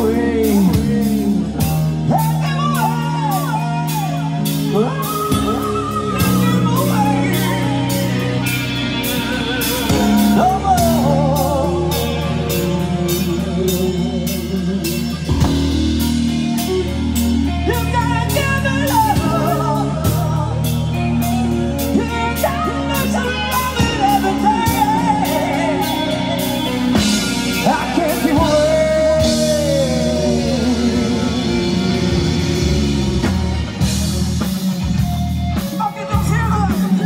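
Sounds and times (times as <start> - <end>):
electric guitar: 0.0 - 37.0
man singing: 0.0 - 37.0
steady drum beat: 0.0 - 37.0.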